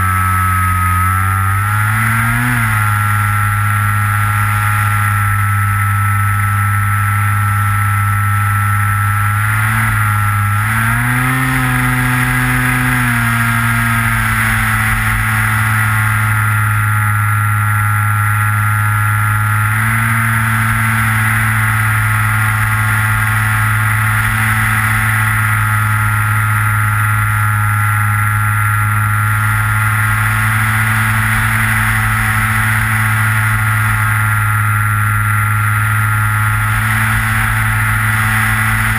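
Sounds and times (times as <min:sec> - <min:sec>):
model plane motor buzzing: 0:00.0 - 0:38.9.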